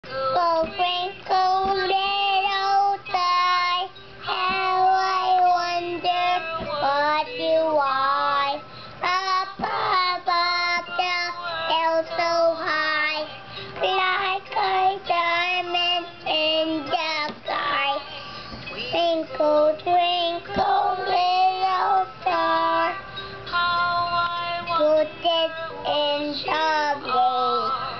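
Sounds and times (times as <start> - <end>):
child singing: 0.1 - 27.9.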